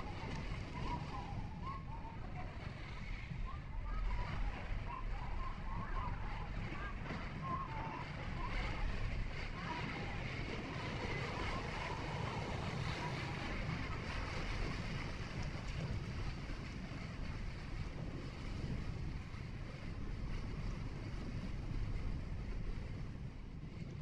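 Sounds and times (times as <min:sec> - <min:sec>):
wind noise: 0:00.0 - 0:24.0.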